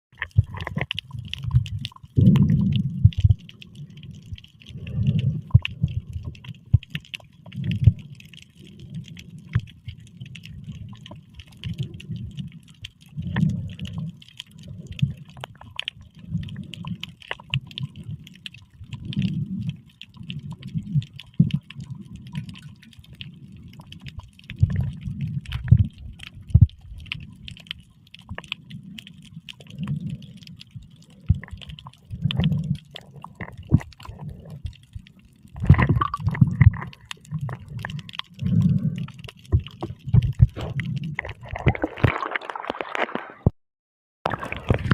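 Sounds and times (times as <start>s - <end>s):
muffled water sloshing and gurgling: 0.1s - 43.6s, 44.2s - 44.9s.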